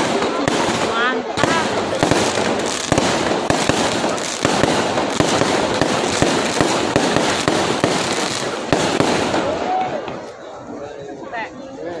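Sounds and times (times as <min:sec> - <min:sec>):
fireworks bangs and crackling: 0:00.0 - 0:10.5.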